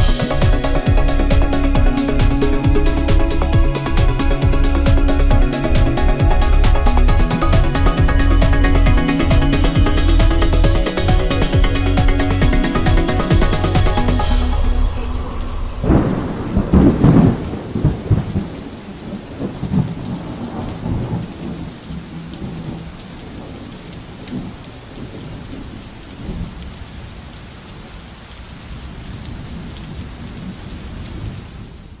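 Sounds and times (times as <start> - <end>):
thunder rumbling: 0.0 - 26.6
steady rain: 0.0 - 32.0.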